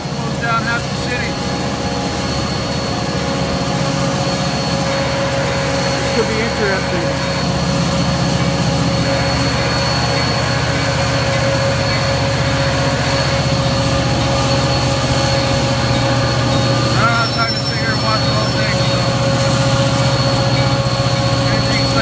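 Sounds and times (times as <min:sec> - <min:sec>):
continuous high whine: 0:00.0 - 0:22.0
diesel locomotive engine drone: 0:00.0 - 0:22.0.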